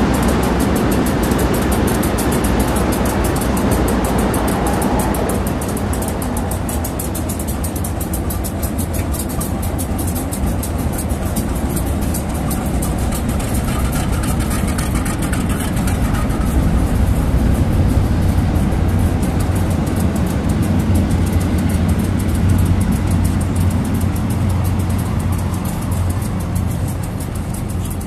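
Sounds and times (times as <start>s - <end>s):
train low rumble: 0.0s - 28.0s.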